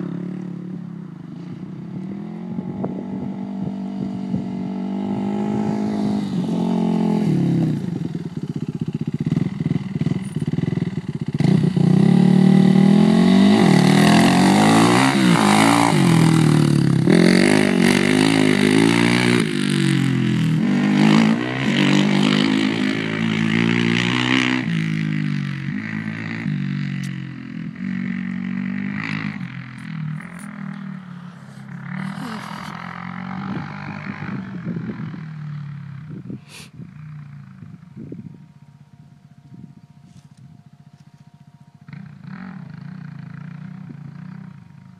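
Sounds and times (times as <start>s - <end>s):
quad engine revving: 1.6s - 36.8s, 41.8s - 44.9s.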